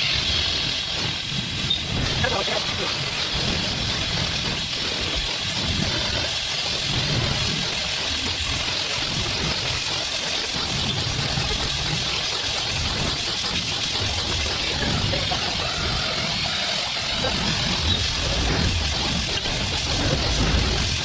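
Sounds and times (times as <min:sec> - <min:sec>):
welding torch flame hissing: 0:00.0 - 0:21.0.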